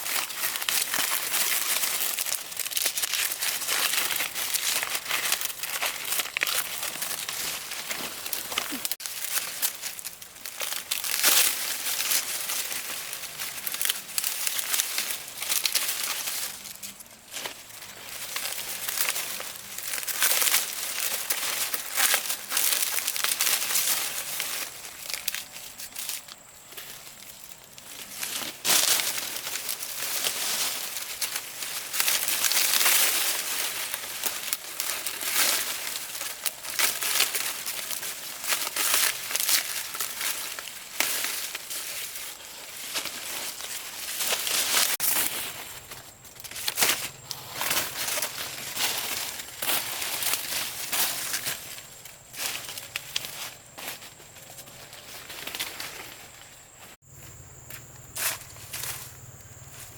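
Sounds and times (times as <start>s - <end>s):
dry material crinkling and rustling: 0.0s - 57.0s.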